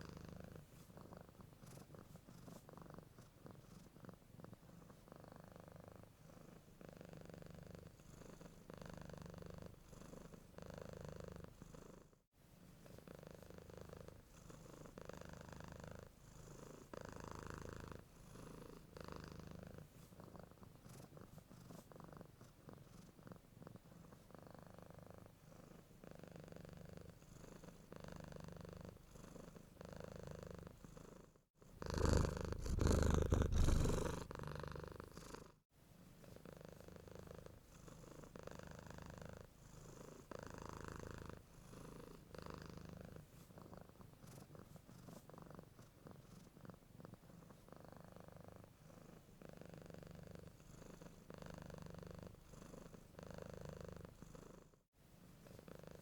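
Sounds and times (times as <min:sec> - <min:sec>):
cat purring: 0:00.0 - 0:12.2, 0:12.8 - 0:35.6, 0:36.2 - 0:54.8, 0:55.4 - 0:56.0.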